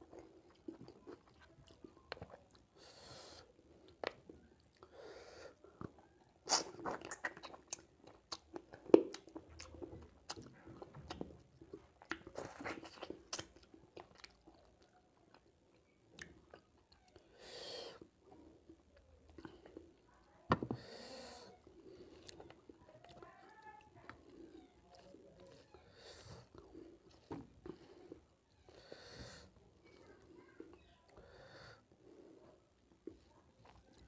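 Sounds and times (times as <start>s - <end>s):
wet chewing mouth sounds: 0.0s - 34.0s.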